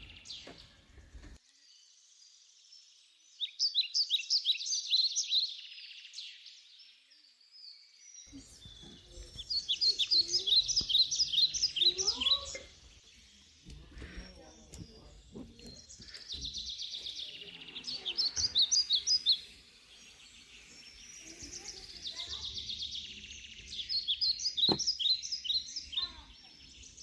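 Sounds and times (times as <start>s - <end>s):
songbird chirping song: 0.0s - 27.0s.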